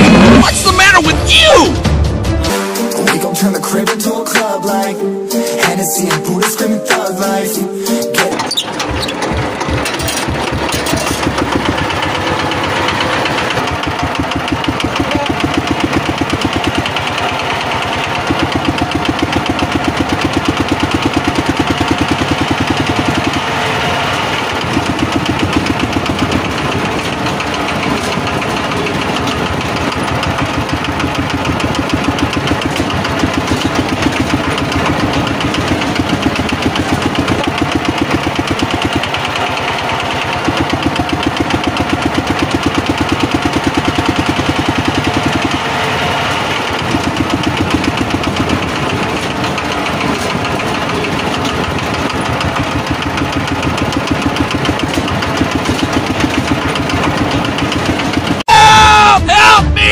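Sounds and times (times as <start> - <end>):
tractor engine chugging: 7.8 - 58.5.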